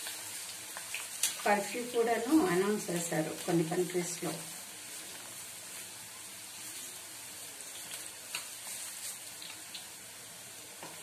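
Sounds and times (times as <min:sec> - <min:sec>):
leaves sizzling in hot oil: 0:00.0 - 0:11.0.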